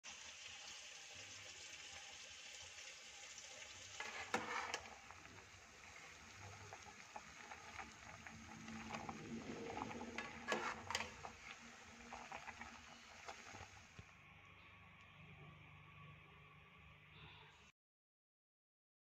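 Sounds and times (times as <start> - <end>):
liquid bubbling and sizzling in pot: 0.0 - 16.6.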